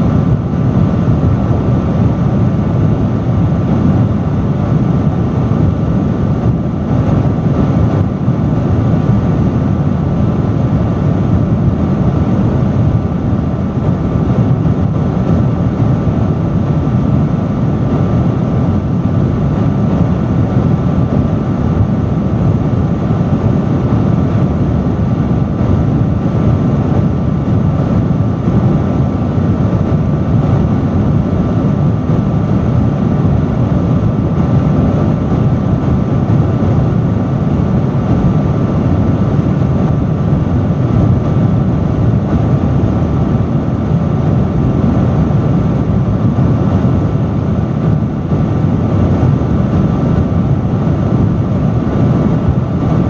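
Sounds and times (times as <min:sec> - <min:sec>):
fan motor whine: 0:00.0 - 0:53.0
industrial fan rushing airflow: 0:00.0 - 0:53.0.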